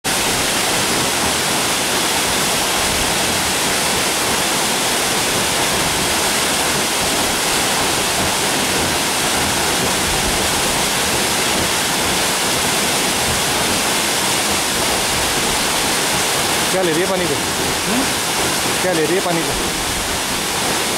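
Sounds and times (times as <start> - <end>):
waterfall hissing: 0.0 - 20.9.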